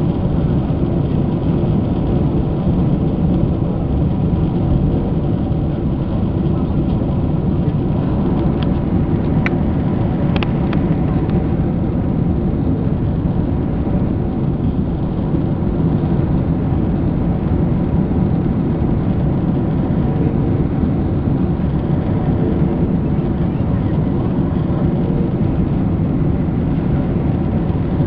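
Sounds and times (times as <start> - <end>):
aircraft cabin engine roar: 0.0 - 28.0.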